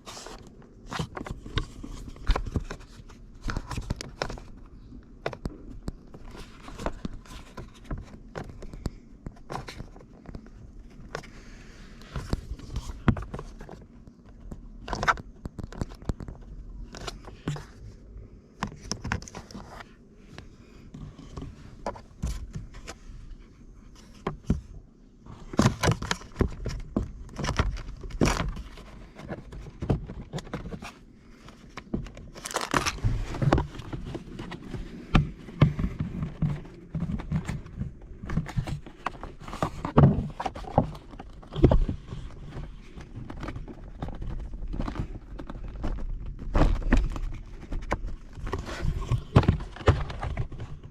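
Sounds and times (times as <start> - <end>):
plastic parts clicking and knocking: 0.1 - 11.3, 12.0 - 17.7, 18.6 - 23.0, 25.4 - 50.9.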